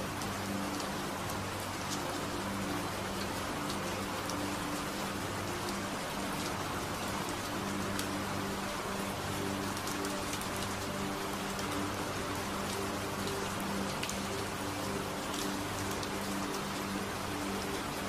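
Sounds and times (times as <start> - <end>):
steady rain: 0.0 - 18.0
raindrop ticks: 0.1 - 17.8.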